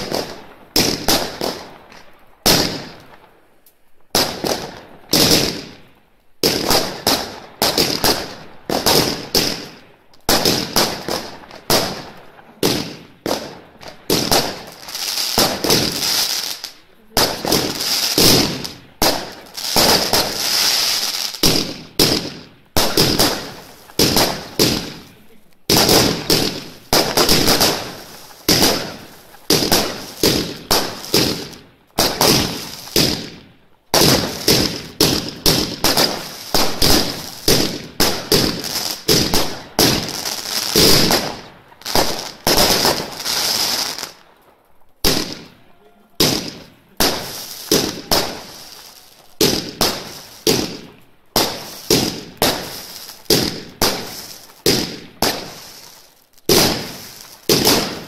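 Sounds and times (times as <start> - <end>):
fireworks bursts banging: 0.0 - 3.4, 4.0 - 58.0.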